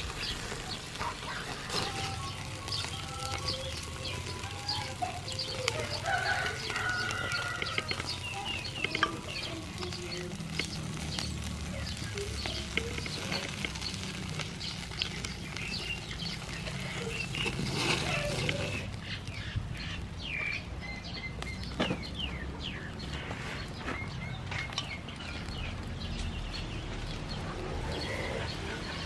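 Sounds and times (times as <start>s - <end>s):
chickens and birds calling: 0.0s - 29.0s
octopus sizzling on grill: 0.0s - 29.0s.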